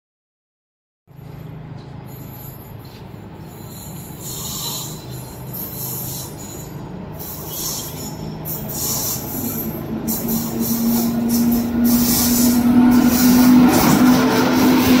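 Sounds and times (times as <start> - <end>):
train wheels rumbling on track: 1.1 - 15.0.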